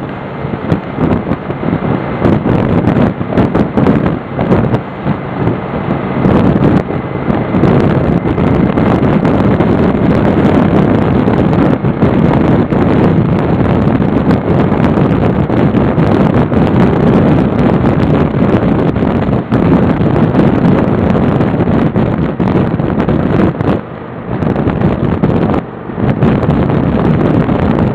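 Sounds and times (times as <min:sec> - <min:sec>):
motorcycle engine drone: 0:00.0 - 0:27.9
wind buffeting microphone: 0:00.0 - 0:27.9.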